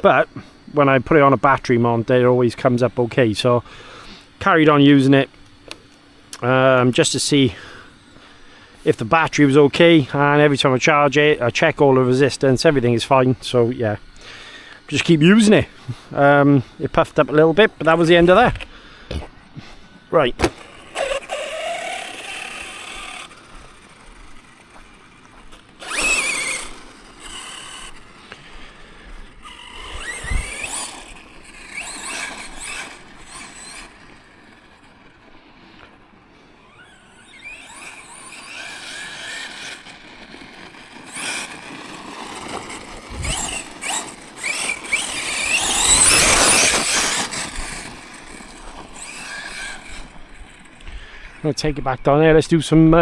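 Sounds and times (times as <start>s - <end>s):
electric motor whining: 0.0s - 52.0s.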